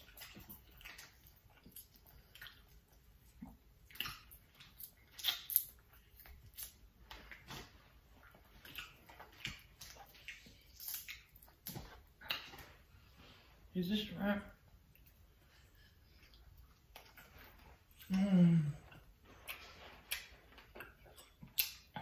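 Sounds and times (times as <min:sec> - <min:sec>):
wet chewing and lip smacking: 0:00.0 - 0:13.1, 0:14.6 - 0:18.2, 0:18.8 - 0:22.0.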